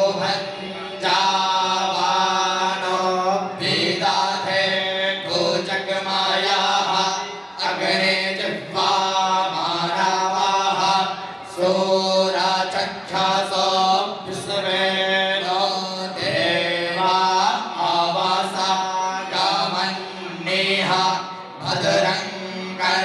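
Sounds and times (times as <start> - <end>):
person chanting mantra: 0.0 - 23.0.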